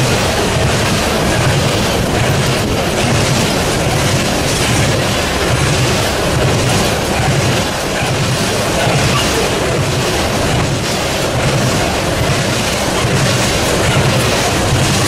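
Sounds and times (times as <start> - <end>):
freight train rumbling past: 0.0 - 15.0
wheel clacks: 0.0 - 15.0.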